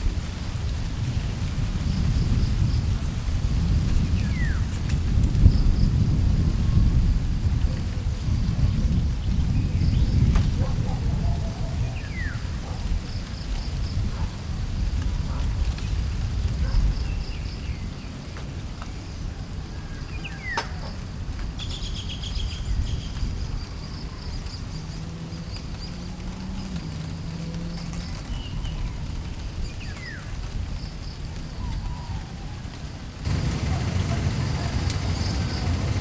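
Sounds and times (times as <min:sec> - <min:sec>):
wind rumble: 0:00.0 - 0:36.0.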